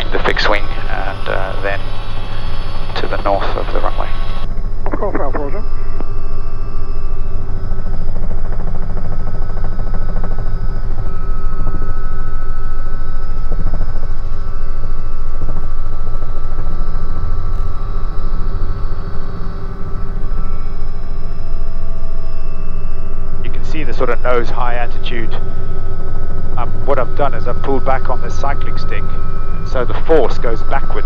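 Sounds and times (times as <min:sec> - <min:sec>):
helicopter rotor and engine drone: 0:00.0 - 0:31.0
high turbine whine: 0:00.0 - 0:31.0.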